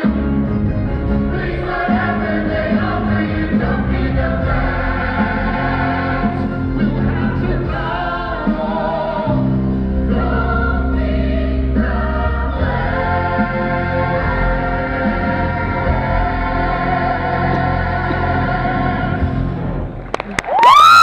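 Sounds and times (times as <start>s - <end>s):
musical backing with heavy bass: 0.0s - 21.0s
choir singing: 1.0s - 19.8s.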